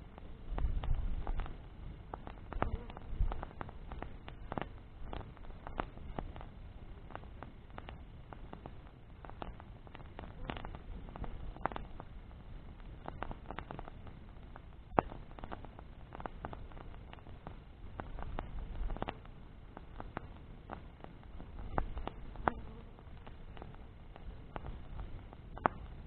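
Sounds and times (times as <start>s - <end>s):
bonfire crackling: 0.0s - 26.0s
sharp pop of fire: 0.2s - 26.0s.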